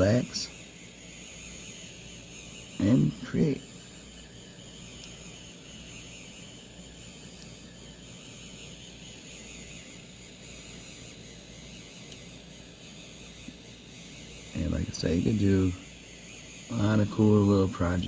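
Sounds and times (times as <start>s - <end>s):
small motor whirring: 0.0s - 18.0s.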